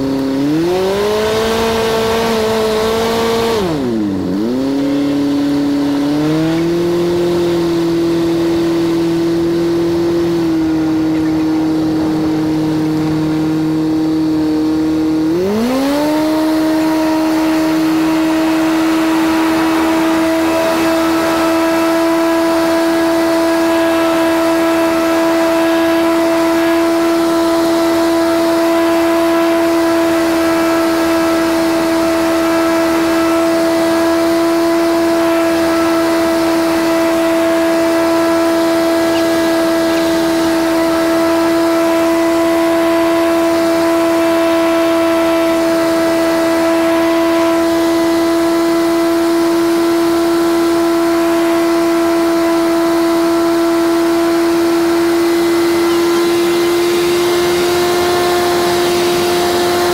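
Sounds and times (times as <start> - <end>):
airplane engine and propeller: 0.0 - 59.9.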